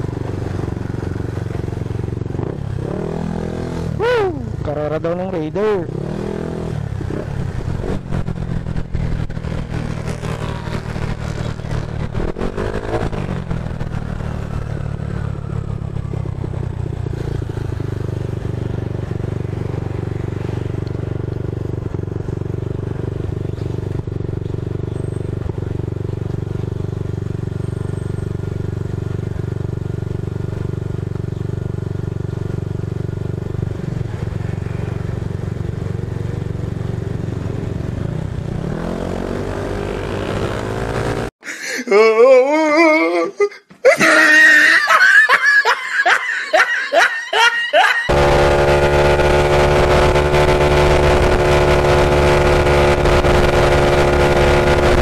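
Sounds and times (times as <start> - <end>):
scooter engine: 0.0 - 41.3, 44.0 - 55.0.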